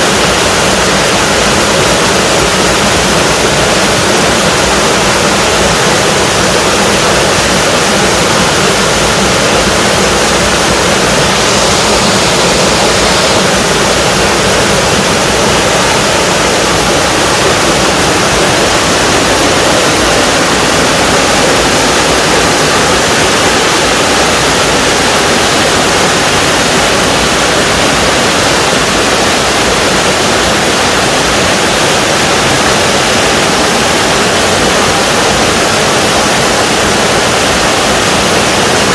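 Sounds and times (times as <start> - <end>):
waterfall pouring and splashing: 0.0 - 38.9.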